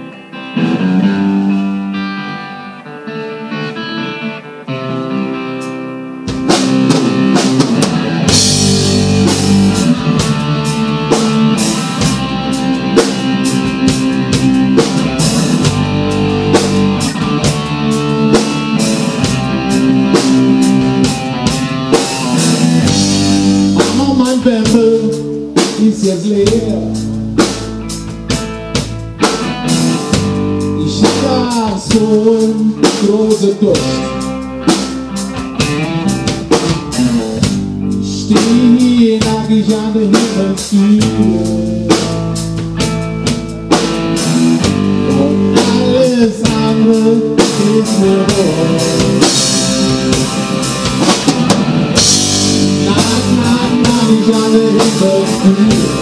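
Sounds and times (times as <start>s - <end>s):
bass guitar: 0.0s - 56.0s
electric guitar: 0.0s - 56.0s
drum kit beat: 5.6s - 56.0s.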